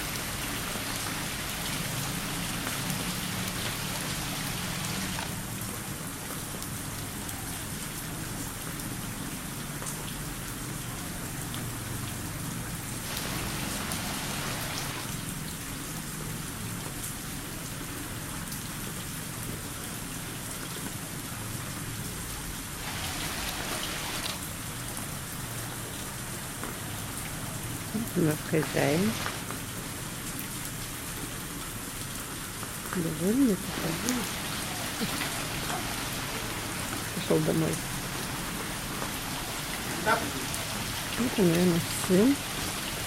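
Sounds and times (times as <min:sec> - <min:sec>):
heavy rain pattering: 0:00.0 - 0:43.0.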